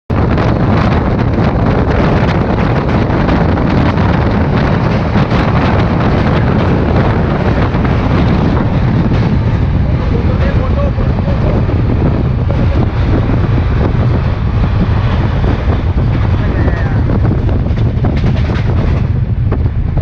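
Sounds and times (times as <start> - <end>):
moving train rumble: 0.1 - 20.0
wind buffeting microphone: 0.1 - 20.0.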